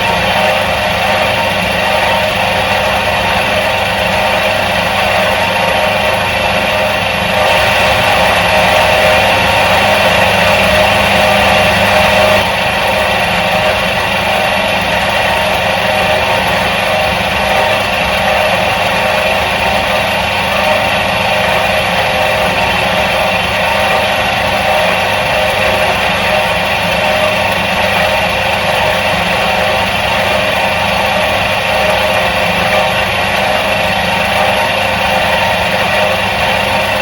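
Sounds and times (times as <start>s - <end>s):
washing machine motor humming: 0.0s - 37.0s.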